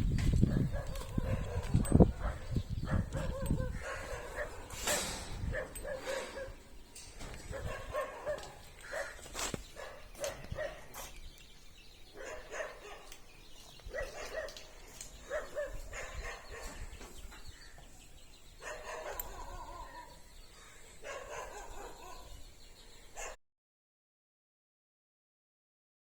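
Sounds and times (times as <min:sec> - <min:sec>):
animals calling: 0:00.4 - 0:23.4.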